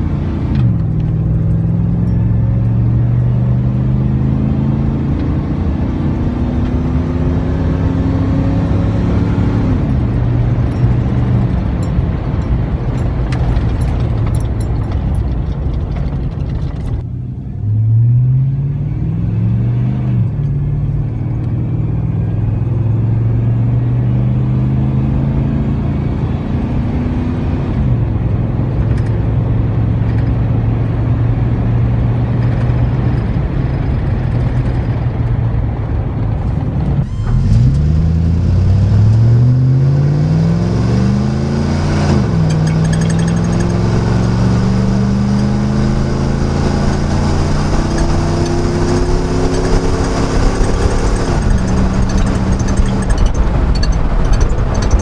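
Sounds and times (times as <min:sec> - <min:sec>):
truck engine accelerating: 0:00.0 - 0:55.0.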